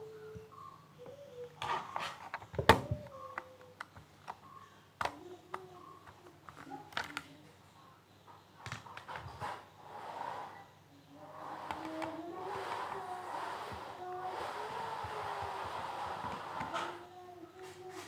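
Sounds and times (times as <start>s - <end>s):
faint whining tones: 0.0s - 18.0s.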